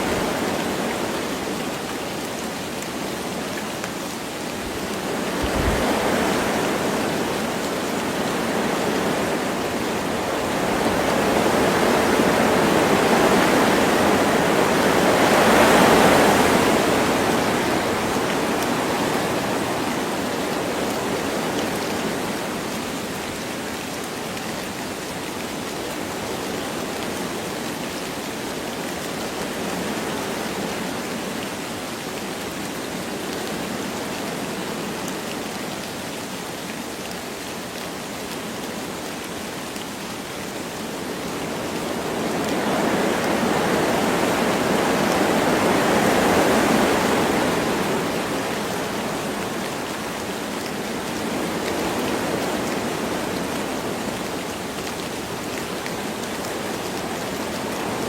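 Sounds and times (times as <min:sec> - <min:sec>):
light rain: 0:00.0 - 0:58.0
wind blowing through trees: 0:00.0 - 0:58.0.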